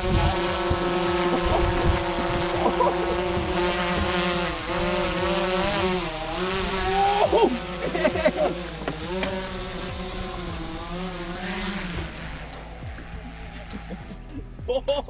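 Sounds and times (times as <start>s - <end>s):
outboard motor running: 0.0s - 14.7s.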